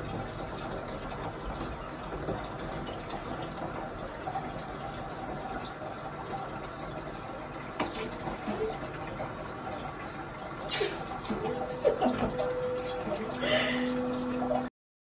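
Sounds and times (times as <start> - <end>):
running splashing water: 0.0 - 14.7.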